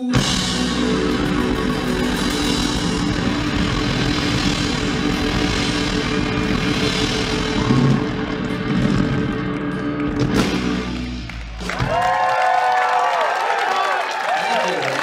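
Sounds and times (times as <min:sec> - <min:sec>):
live rock band playing: 0:00.0 - 0:12.3.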